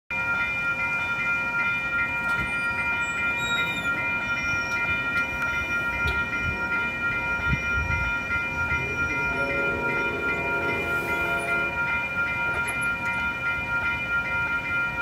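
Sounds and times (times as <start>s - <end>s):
railroad crossing bells ringing: 0.1s - 15.0s.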